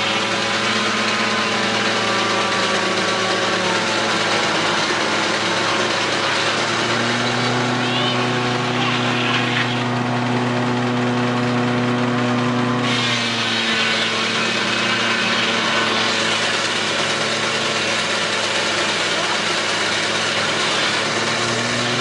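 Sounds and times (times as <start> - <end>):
sawmill machinery humming: 0.0 - 22.0.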